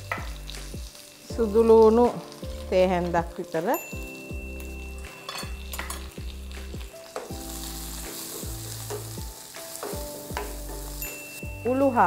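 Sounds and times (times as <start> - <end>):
onions sizzling in hot oil: 0.0 - 12.0
soft background music: 0.0 - 12.0.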